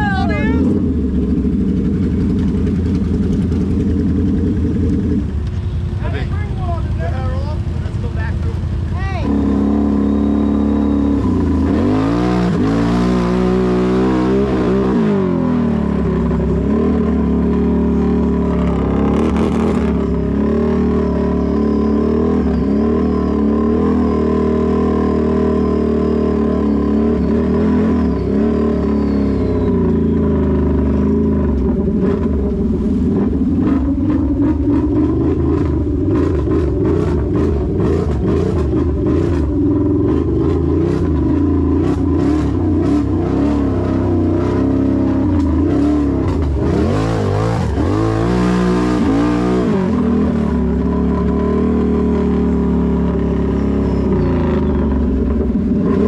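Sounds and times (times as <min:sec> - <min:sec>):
engine revving: 0:00.0 - 0:56.0.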